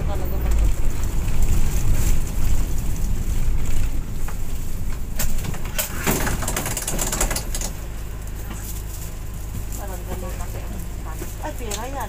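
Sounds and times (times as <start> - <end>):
vehicle rumble from inside: 0.0 - 12.0.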